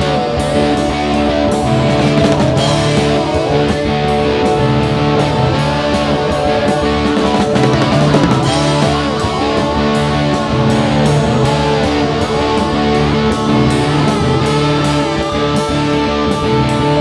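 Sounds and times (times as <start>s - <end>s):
electric slide guitar solo: 0.0s - 17.0s
rock backing band: 0.0s - 17.0s.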